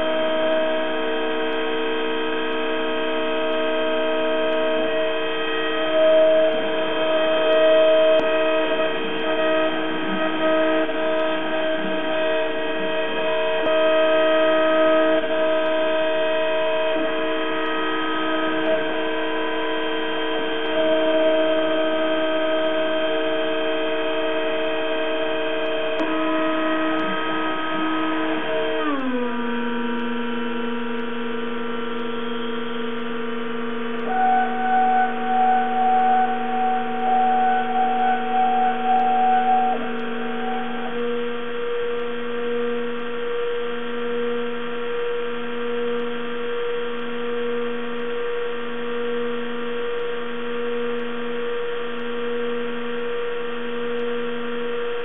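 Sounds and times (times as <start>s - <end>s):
loud wavering tone: 0.0s - 55.0s
milling machine motor whine: 0.0s - 55.0s.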